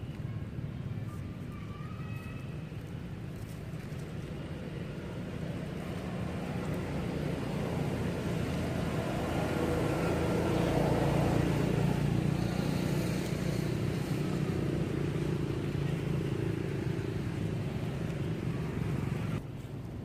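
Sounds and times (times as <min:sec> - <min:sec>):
vehicle engine running: 0:03.4 - 0:19.4.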